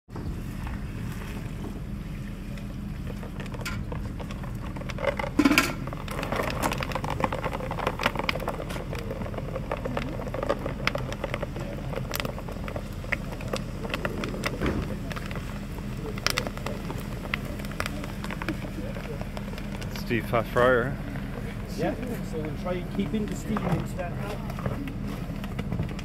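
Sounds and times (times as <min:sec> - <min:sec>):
water pouring into bucket: 0:01.0 - 0:25.3
lime crackling and popping: 0:03.0 - 0:26.0.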